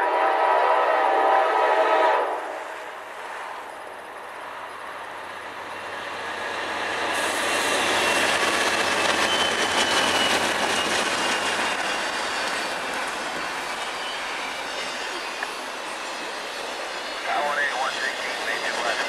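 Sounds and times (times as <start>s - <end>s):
diesel locomotives passing: 0.0s - 19.0s.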